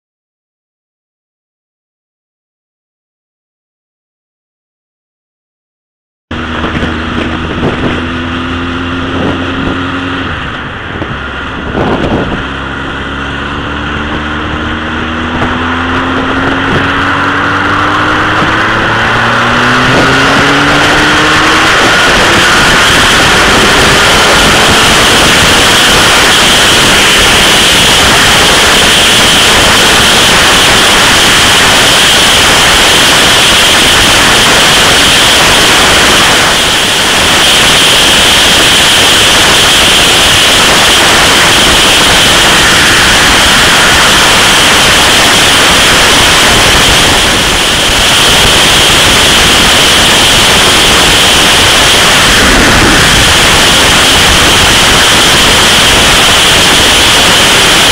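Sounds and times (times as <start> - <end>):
wind buffeting microphone: 6.3 - 57.9.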